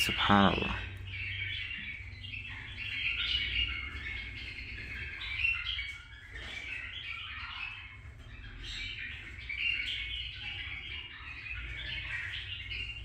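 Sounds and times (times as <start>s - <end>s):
birds chirping and twittering: 0.0s - 13.0s.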